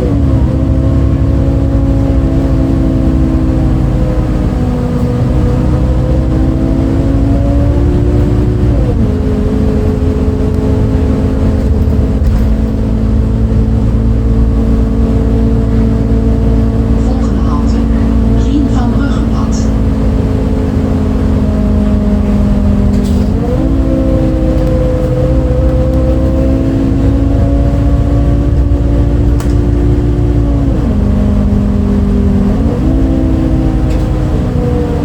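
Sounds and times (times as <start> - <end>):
bus diesel engine pulling: 0.0 - 35.0.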